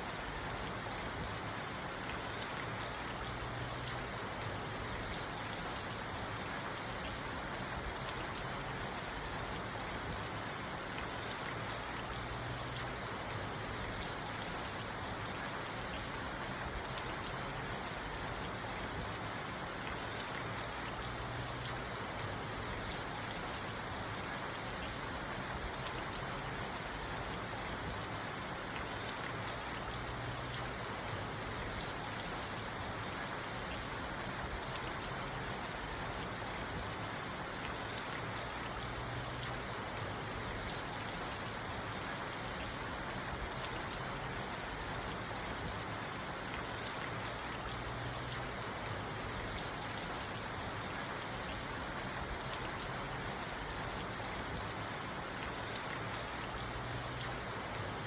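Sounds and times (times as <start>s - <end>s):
rain on a car roof: 0.0s - 58.0s.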